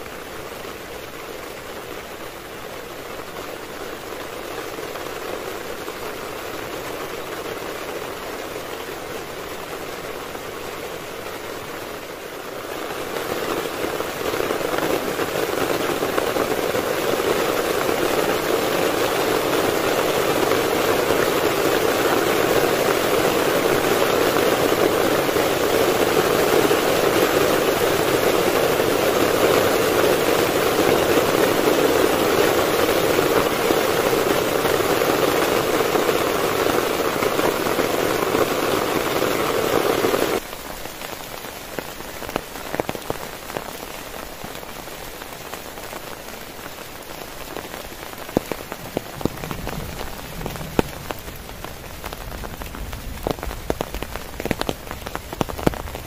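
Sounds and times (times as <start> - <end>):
heavy rain on a tent: 0.0 - 56.0
raindrops ticking on fabric: 0.0 - 56.0.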